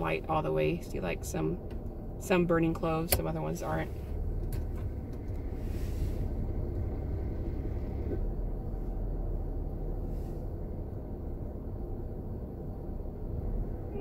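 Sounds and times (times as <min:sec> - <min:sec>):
car cabin low rumble: 0:00.0 - 0:14.0.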